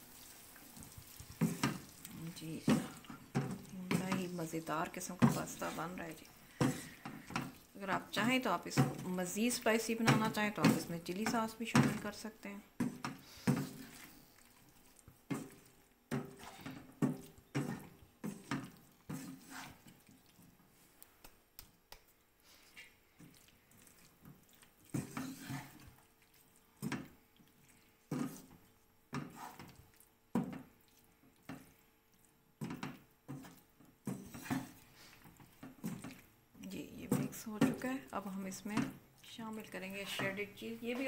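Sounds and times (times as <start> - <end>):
wooden spatula scraping a wok: 0.8 - 12.2, 12.8 - 21.0, 23.8 - 29.8, 32.6 - 36.3, 36.9 - 41.0.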